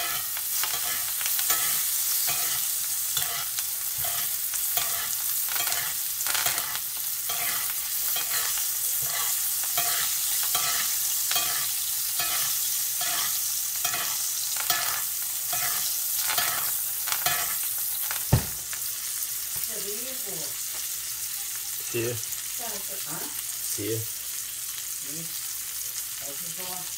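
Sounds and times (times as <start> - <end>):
butter sizzling in a skillet: 0.0 - 26.9.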